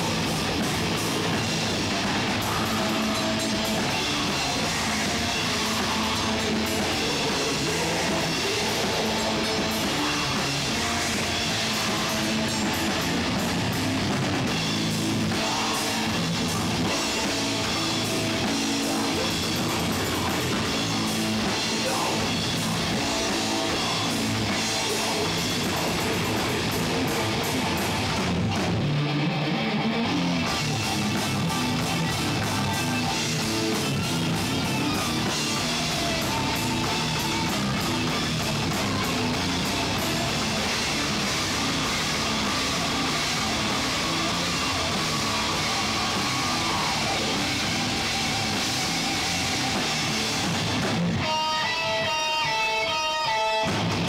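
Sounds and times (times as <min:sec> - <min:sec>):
distorted electric guitars: 0:00.0 - 0:54.0
heavy metal band playing live: 0:00.0 - 0:54.0
pounding drum kit: 0:00.0 - 0:54.0.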